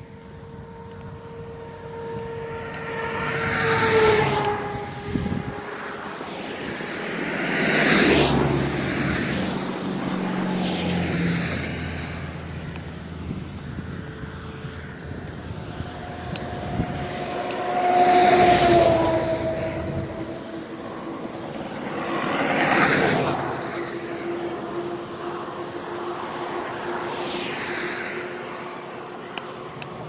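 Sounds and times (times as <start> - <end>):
vehicles passing close by: 0.0 - 30.0.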